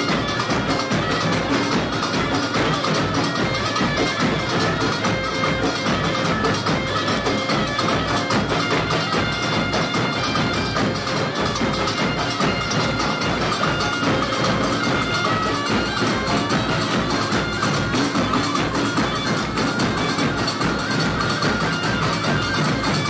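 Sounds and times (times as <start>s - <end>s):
bagpipe playing: 0.0s - 23.0s
bass and snare drums beating: 0.0s - 23.0s.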